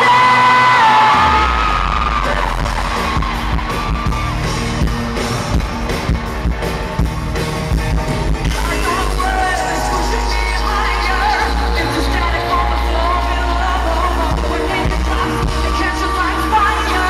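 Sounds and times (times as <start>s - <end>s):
crowd yelling: 0.0s - 17.0s
live pop-rock music: 0.0s - 17.0s.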